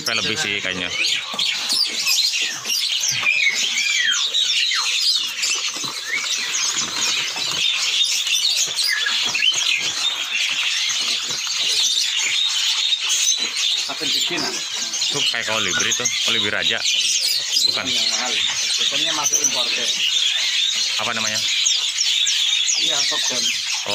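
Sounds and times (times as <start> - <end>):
songbirds chirping: 0.0 - 23.9.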